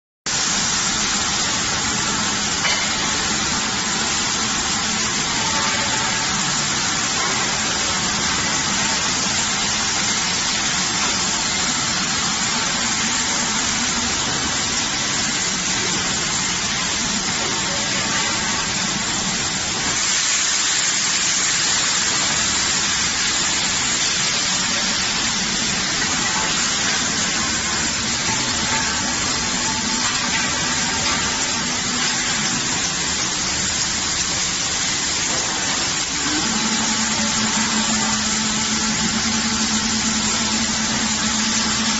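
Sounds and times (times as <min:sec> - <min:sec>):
welding machine hissing: 0:00.3 - 0:41.9.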